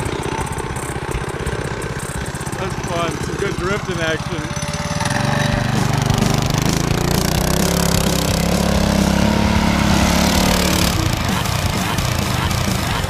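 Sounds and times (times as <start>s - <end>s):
minibike engine at high revs: 0.0s - 13.0s.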